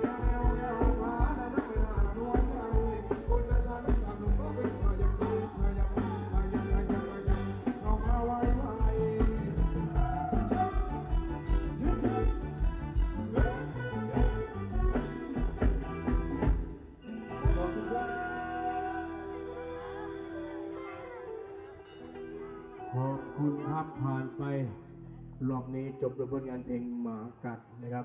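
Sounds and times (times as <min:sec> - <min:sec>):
live band playing dance song: 0:00.0 - 0:23.6.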